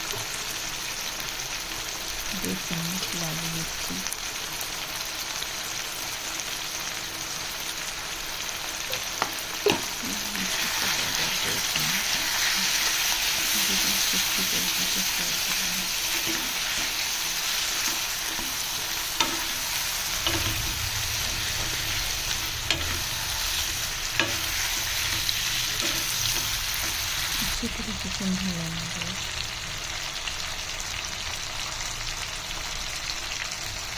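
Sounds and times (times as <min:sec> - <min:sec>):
chicken sizzling in hot oil: 0:00.0 - 0:33.9.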